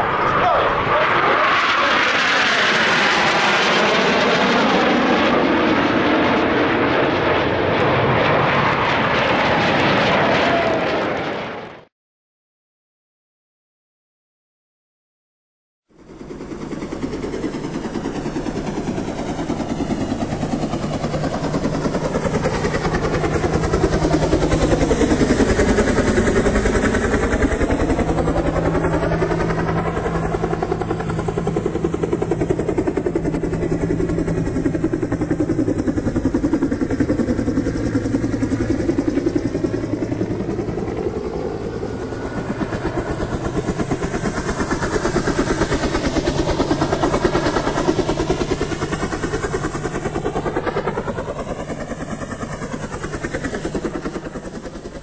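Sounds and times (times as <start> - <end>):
helicopter rotor chopping: 0.0 - 11.9, 16.0 - 55.0
helicopter turbine engines: 0.0 - 11.9, 15.9 - 55.0.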